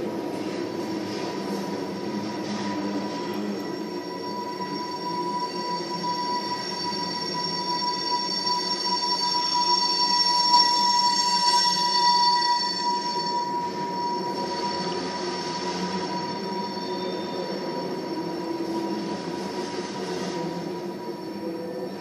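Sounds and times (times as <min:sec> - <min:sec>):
wheel squeal: 0:00.0 - 0:22.0.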